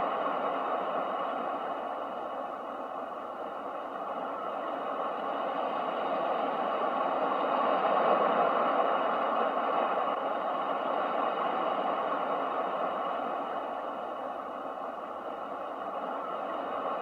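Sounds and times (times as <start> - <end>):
ocean surf roar: 0.0 - 17.0.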